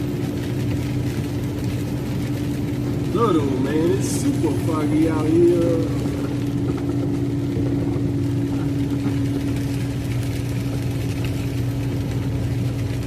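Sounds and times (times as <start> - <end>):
diesel truck engine drone: 0.0 - 13.0
road noise: 0.0 - 13.0.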